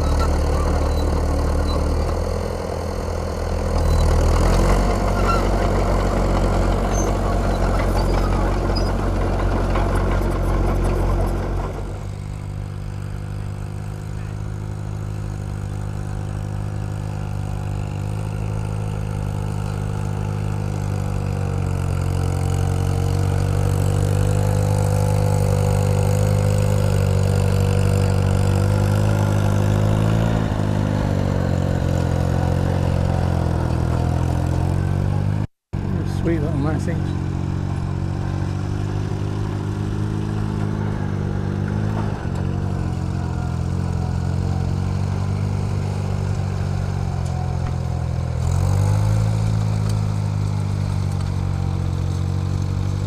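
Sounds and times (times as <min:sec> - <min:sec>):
engine running: 0:00.0 - 0:53.0.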